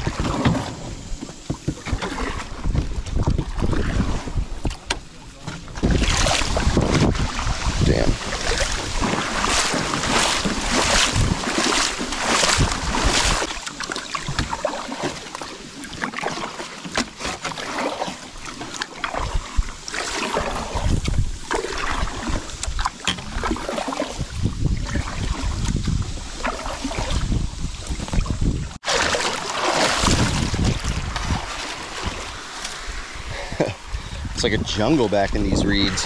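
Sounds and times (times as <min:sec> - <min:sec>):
wind buffeting microphone: 0:00.0 - 0:13.5, 0:19.1 - 0:28.8, 0:29.8 - 0:36.0
paddle strokes splashing water: 0:00.0 - 0:36.0.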